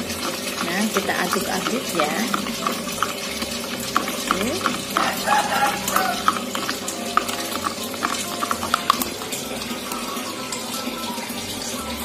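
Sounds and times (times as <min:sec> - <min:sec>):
spoon stirring in plastic cup: 0:00.0 - 0:10.9.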